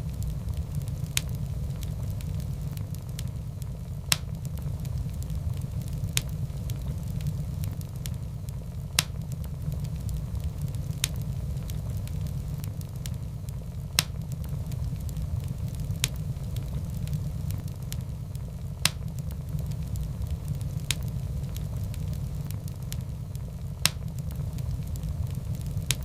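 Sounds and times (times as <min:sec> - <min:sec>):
fire flames rumbling: 0:00.0 - 0:26.0
logs crackling and popping: 0:00.0 - 0:26.0.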